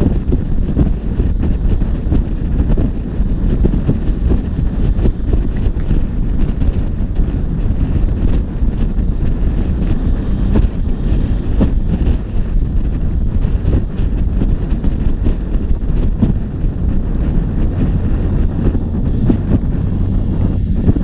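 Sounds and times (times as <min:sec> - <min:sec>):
motorcycle engine running: 0:00.0 - 0:21.0
wind buffeting on microphone: 0:00.0 - 0:21.0.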